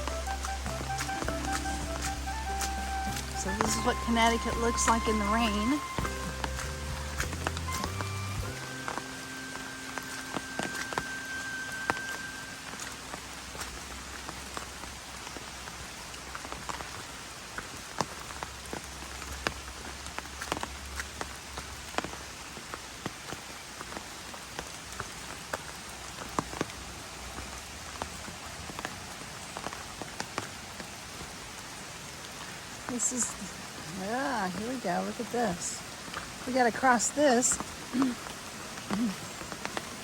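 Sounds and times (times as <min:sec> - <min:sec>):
raindrops hitting close: 0:00.0 - 0:40.0
steady rain: 0:00.0 - 0:40.0.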